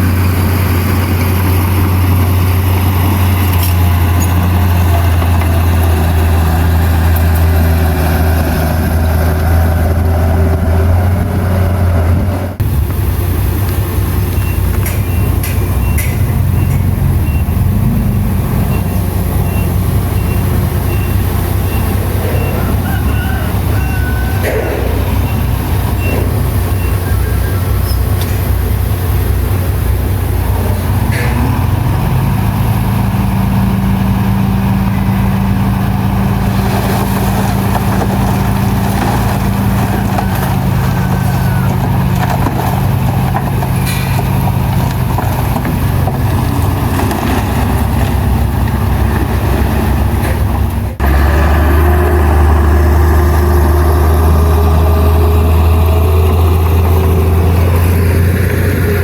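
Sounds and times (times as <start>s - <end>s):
deep engine drone: 0.0s - 59.0s
heavy diesel machinery running: 0.0s - 59.0s.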